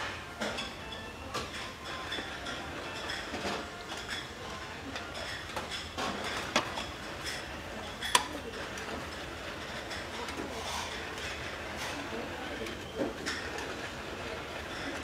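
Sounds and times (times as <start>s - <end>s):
utensils clinking against dishes: 0.0s - 15.0s.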